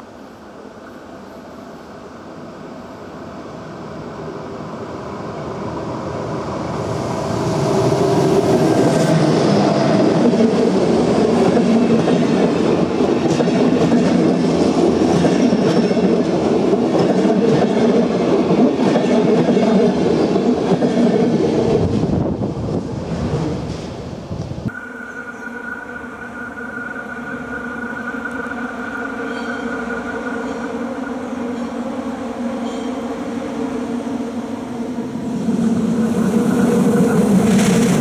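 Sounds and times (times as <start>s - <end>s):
train passing on rails: 0.0s - 38.0s.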